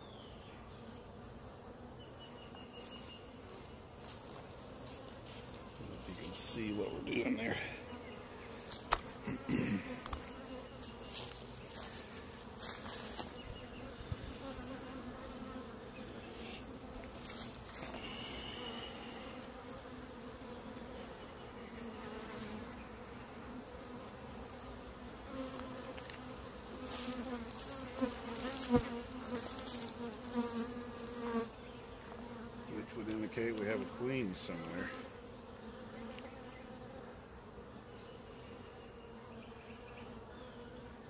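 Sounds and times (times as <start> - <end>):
bees buzzing: 0.1 - 41.0.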